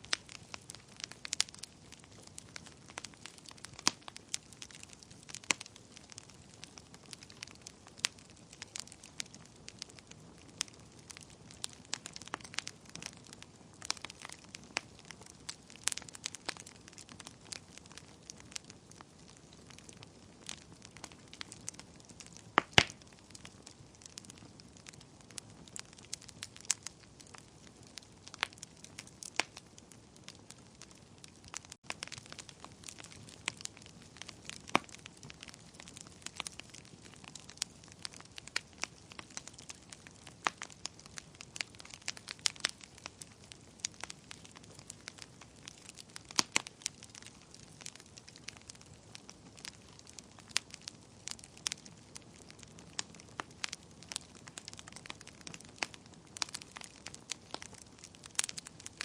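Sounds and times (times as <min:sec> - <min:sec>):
fire crackling and popping: 0:00.0 - 0:59.0
rustle of flames: 0:00.0 - 0:59.0.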